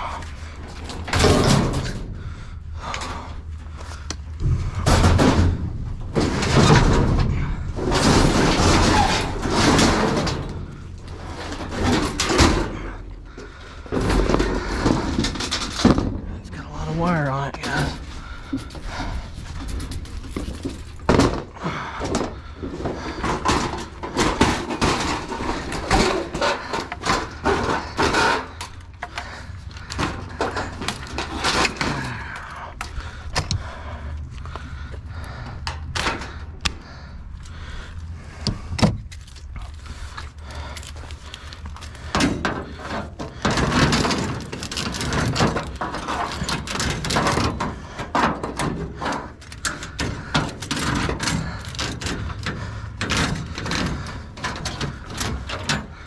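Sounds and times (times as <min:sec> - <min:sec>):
low rumble: 0:00.0 - 0:46.4
scrap metal knocks and rattles: 0:00.0 - 0:56.0.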